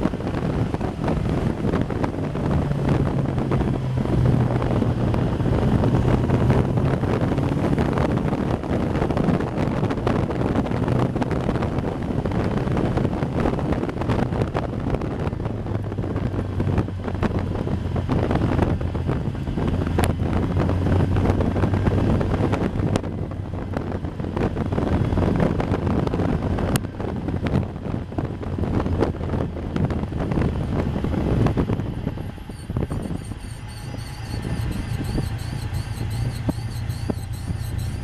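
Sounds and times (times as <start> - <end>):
race car engine running: 0.0 - 38.0
wind buffeting microphone: 0.0 - 38.0.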